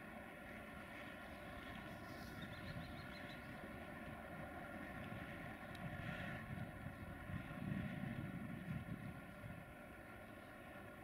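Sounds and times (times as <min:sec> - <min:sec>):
locomotive rumble: 0:00.0 - 0:11.0
steady hum: 0:00.0 - 0:11.0.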